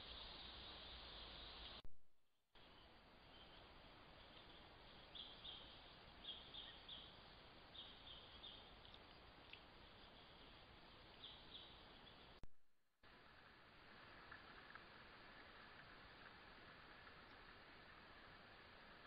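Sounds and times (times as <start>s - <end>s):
faint microphone hiss: 0.0s - 1.9s, 2.6s - 19.0s.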